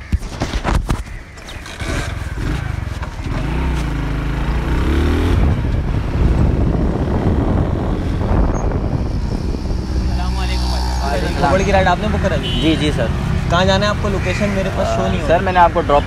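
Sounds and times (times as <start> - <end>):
motorcycle engine: 1.1 - 16.0.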